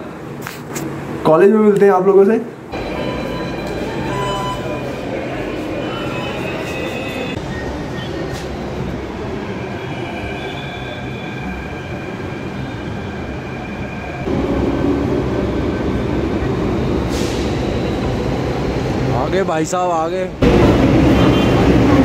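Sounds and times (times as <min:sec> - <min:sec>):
metro train running with whine: 0:02.6 - 0:22.0.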